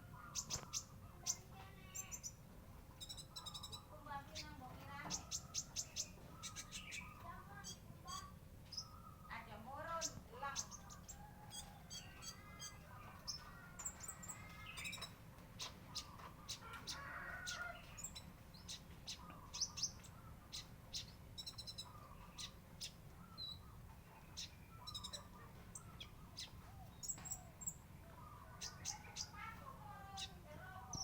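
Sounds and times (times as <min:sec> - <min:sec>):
sunbird calling: 0:03.0 - 0:31.0.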